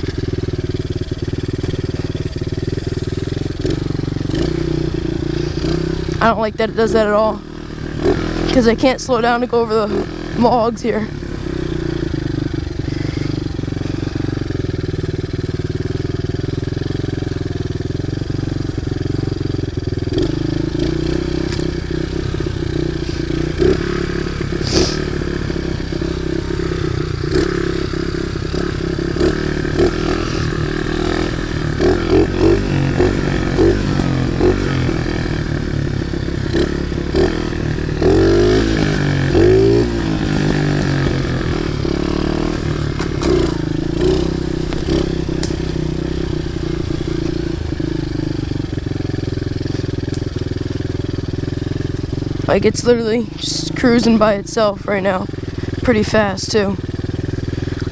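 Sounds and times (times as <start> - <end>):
pit bike engine running: 0.0 - 57.9.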